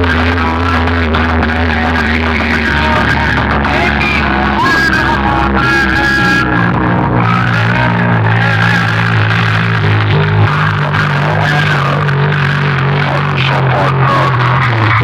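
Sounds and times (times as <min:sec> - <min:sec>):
loud music with booming bass: 0:00.0 - 0:15.0.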